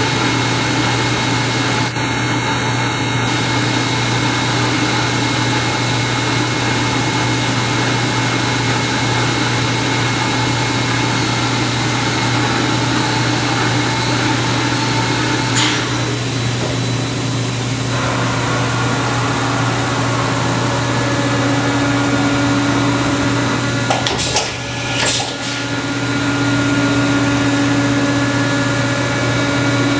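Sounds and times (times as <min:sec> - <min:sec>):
machine motor and pump hum: 0:00.0 - 0:29.9.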